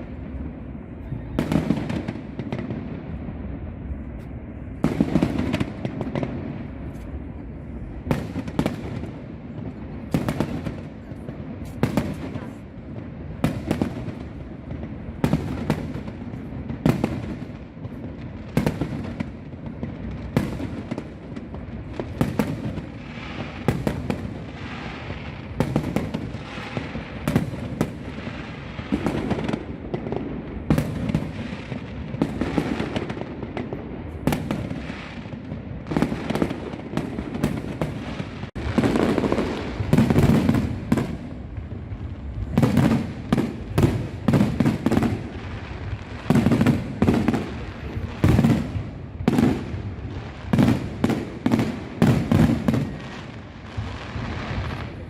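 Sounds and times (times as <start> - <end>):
rumbling crackling fireworks: 0.0 - 55.0.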